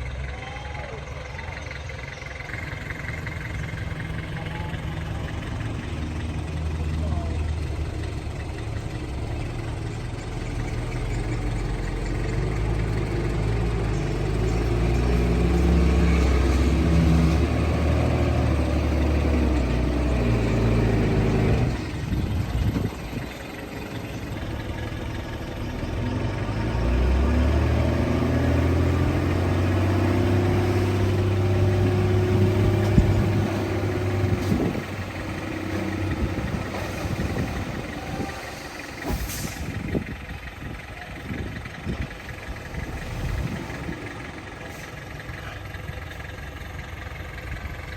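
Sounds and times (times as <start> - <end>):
heavy machinery diesel engine: 0.0 - 47.9.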